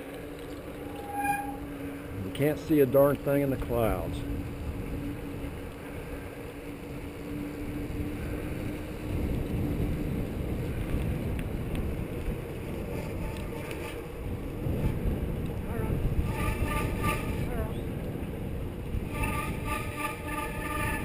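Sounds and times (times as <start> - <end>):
bike rumbling on paved road: 0.0 - 21.0
wind buffeting microphone: 0.0 - 21.0.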